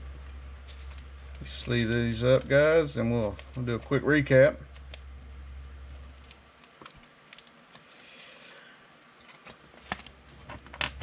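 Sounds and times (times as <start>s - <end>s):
cards rustling in plastic sleeves: 0.0s - 10.6s.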